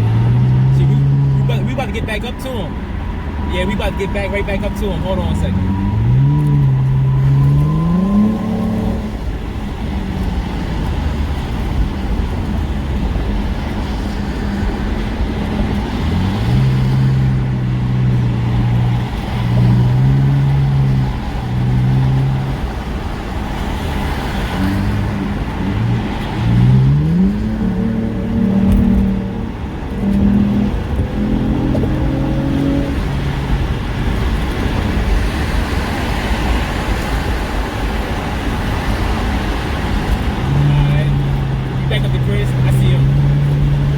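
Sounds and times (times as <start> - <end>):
car engine accelerating hard: 0.0 - 43.9
road and wind noise: 0.0 - 43.9.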